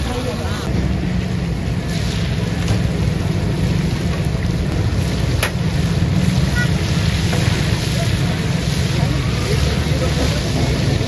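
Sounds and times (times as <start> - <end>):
low steady rumble: 0.0 - 11.0
fish sizzling in hot oil: 0.9 - 11.0.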